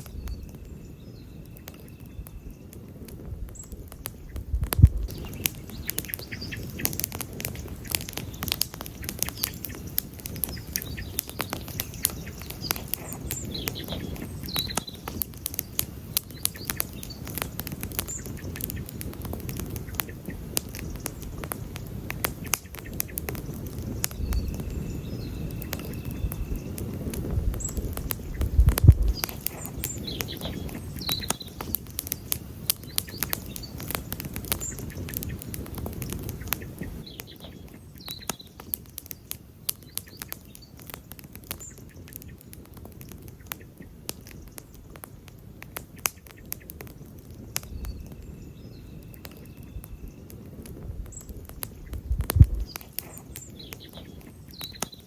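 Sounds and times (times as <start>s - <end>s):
bird chirps: 0.0s - 2.8s, 3.5s - 44.9s, 46.0s - 55.0s
campfire crackling and popping: 0.0s - 55.0s.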